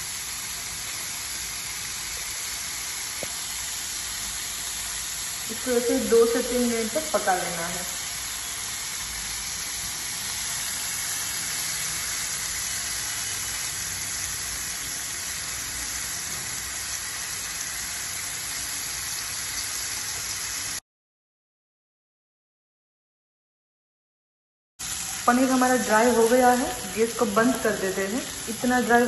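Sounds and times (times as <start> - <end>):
food sizzling in hot oil: 0.0 - 20.8, 24.8 - 29.0.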